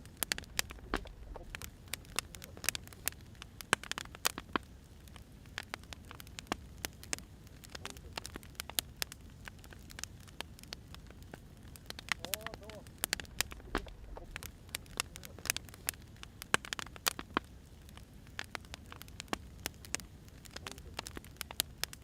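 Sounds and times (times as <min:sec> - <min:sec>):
low steady rumble: 0:00.0 - 0:20.3
firewood crackling and popping: 0:00.0 - 0:22.0.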